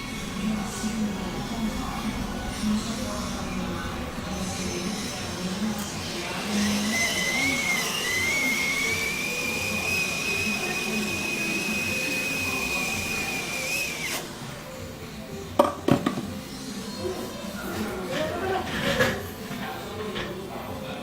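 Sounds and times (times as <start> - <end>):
hot-air blower whine and hiss: 0.0 - 20.9.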